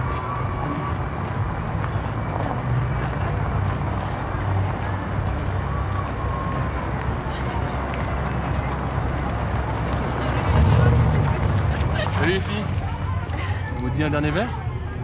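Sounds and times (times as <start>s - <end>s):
high-heeled footsteps on pavement: 0.0s - 15.0s.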